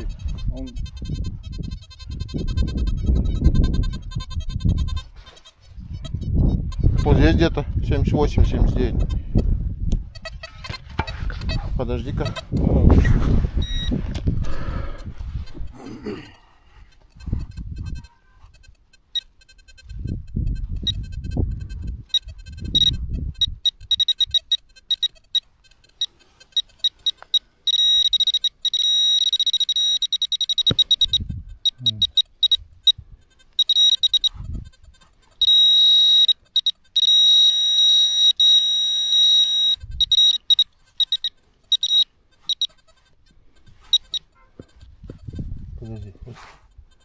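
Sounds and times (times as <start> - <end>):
metal detector beeping: 0.0 - 9.5, 10.1 - 15.8, 16.9 - 47.0.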